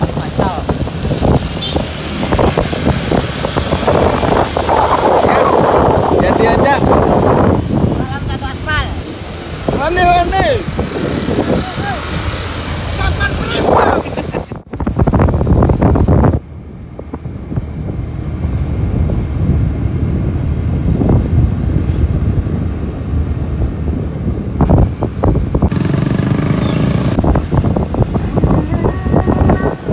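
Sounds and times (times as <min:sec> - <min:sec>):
motorcycle engine rumble: 0:00.0 - 0:29.9
tyres on road: 0:00.0 - 0:29.9
wind buffeting microphone: 0:00.0 - 0:29.9.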